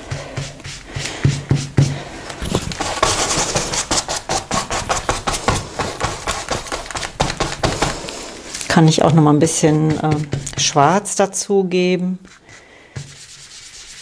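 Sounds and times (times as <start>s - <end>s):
paintbrush scrubbing on canvas: 0.0s - 11.0s, 12.2s - 14.0s.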